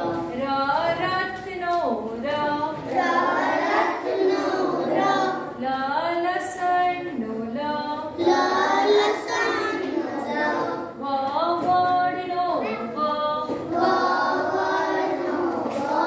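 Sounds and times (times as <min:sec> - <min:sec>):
sing-song chanting of letters: 0:00.0 - 0:16.0.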